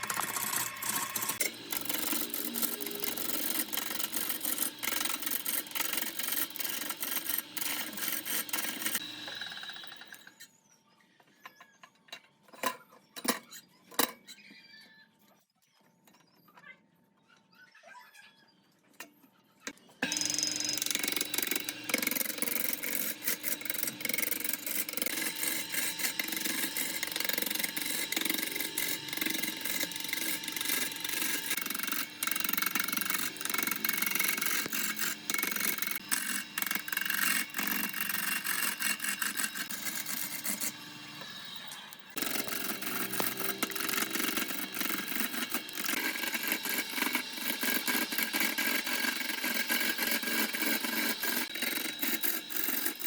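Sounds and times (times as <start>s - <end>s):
wood lathe tool scraping wood: 0.0s - 10.2s, 20.0s - 53.0s
faint lathe whine: 0.0s - 12.0s, 19.8s - 53.0s.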